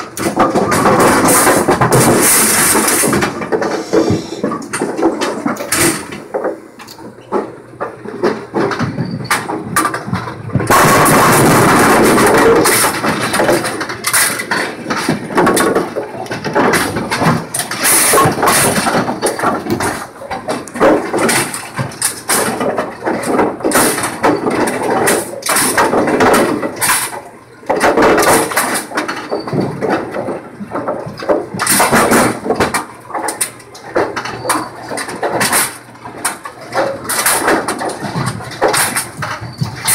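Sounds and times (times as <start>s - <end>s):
bowling pinsetter clattering: 0.0s - 39.9s.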